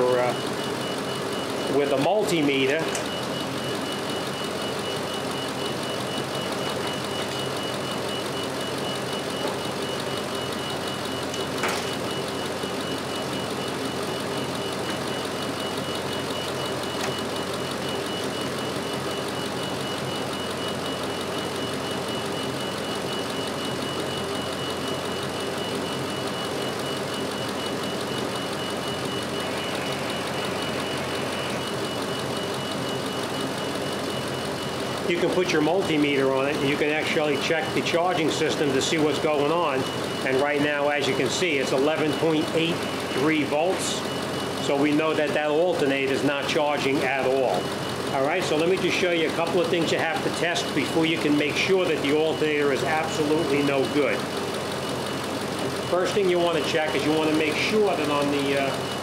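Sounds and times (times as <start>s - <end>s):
high whine: 0.0s - 54.4s
truck engine idling: 0.0s - 59.0s.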